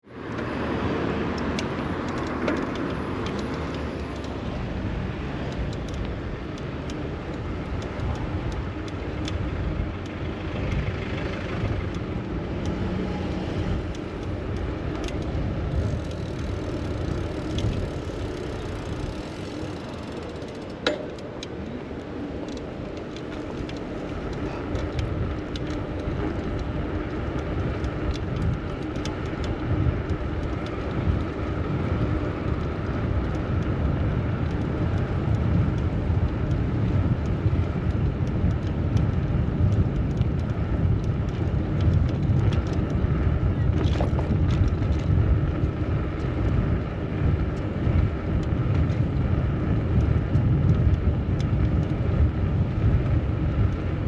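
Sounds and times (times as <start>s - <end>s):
passing cars and road noise: 0.0s - 54.0s
small clicks: 0.2s - 54.0s.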